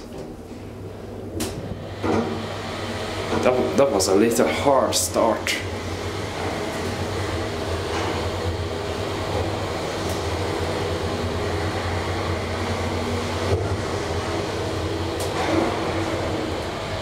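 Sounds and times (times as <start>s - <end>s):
elevator car travelling: 0.0s - 17.0s.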